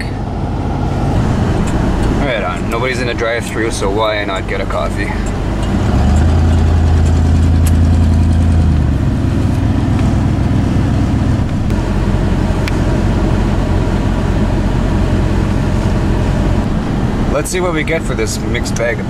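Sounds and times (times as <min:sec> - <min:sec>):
vehicle engine from inside cab: 0:00.0 - 0:19.0.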